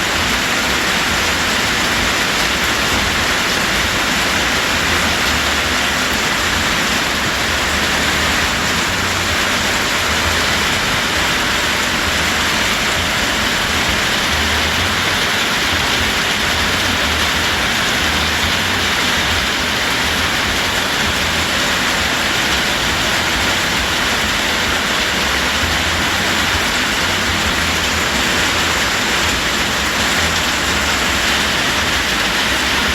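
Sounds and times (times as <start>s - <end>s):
heavy rain hissing: 0.0s - 32.9s.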